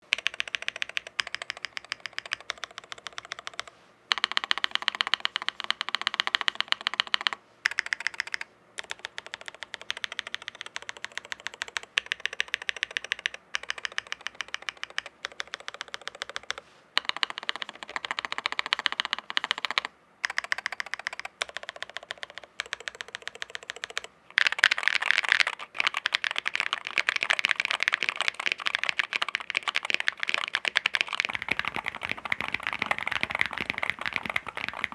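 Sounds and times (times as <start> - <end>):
typing on mechanical keyboard: 0.0 - 34.9.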